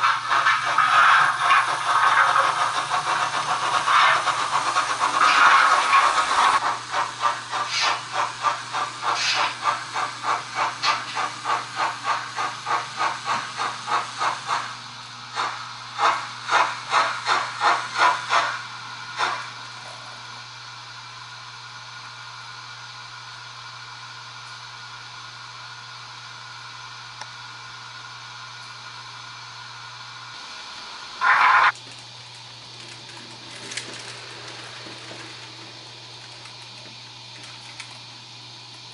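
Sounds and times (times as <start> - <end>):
model steam locomotive chuffing: 0.0 - 31.8, 32.6 - 38.0.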